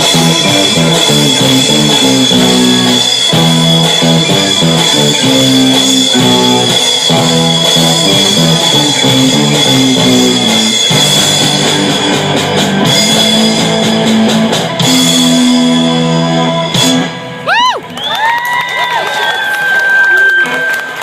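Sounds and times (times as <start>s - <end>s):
rock music on guitar and bass: 0.0s - 17.7s.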